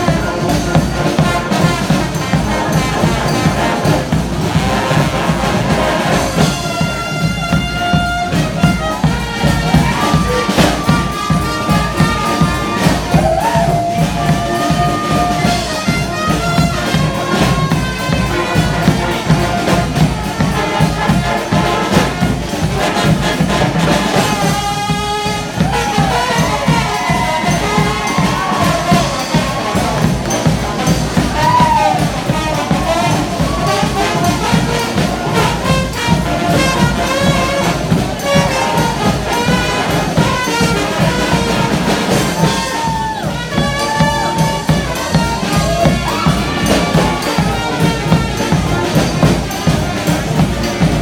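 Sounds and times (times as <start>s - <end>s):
drum beat: 0.0s - 51.0s
trumpets and trombones: 0.0s - 51.0s.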